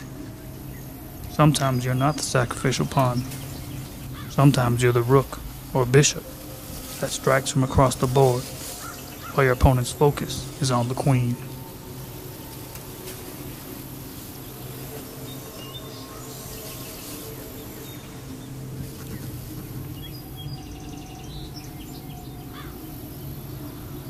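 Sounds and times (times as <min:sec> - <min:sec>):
bird chirps: 0:00.0 - 0:24.0
insect drone: 0:00.0 - 0:24.0
low steady hum: 0:00.0 - 0:24.0
rapid insect trill: 0:00.0 - 0:24.0.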